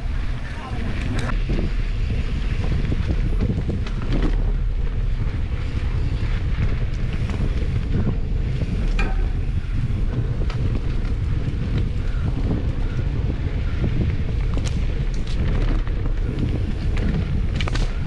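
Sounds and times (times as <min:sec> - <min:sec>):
bike rattling and knocking: 0:00.0 - 0:18.0
wind buffeting microphone: 0:00.0 - 0:18.0.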